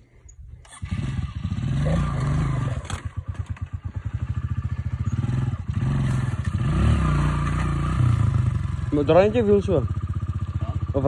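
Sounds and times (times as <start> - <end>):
dirt bike engine revving: 0.6 - 11.0.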